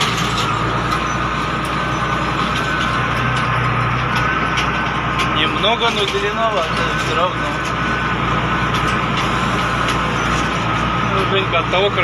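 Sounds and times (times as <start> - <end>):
constant whine: 0.0 - 12.0
tractor diesel engine running: 0.0 - 12.0.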